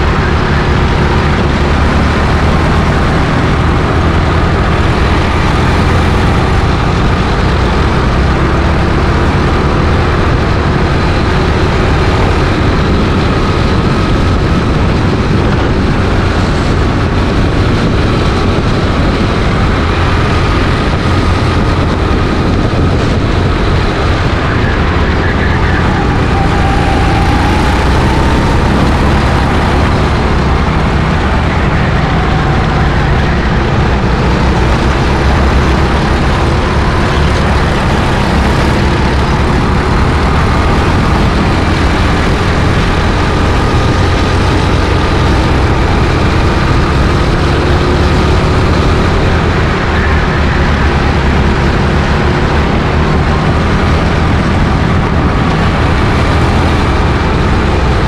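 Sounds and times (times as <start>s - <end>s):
go-kart engine racing: 0.0s - 58.0s
wind noise on microphone: 0.0s - 58.0s.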